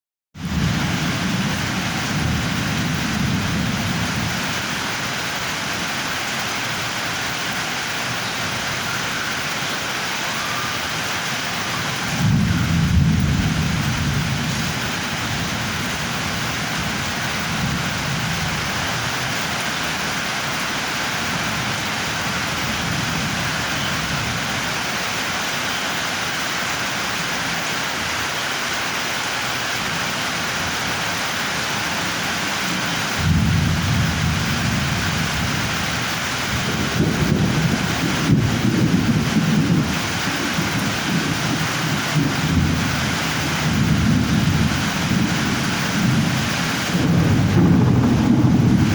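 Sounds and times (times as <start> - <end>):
thunder rolling: 0.4 - 27.6, 29.4 - 48.9
heavy rain falling: 0.4 - 48.9.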